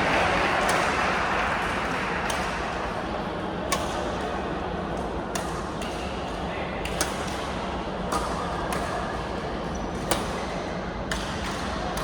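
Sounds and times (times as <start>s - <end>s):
crowd and court noise: 0.0s - 12.0s.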